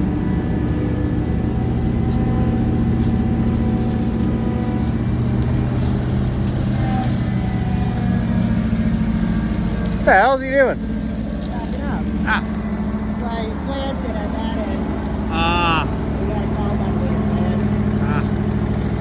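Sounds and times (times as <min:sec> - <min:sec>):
engine droning: 0:00.0 - 0:19.0
humming tones: 0:00.0 - 0:19.0.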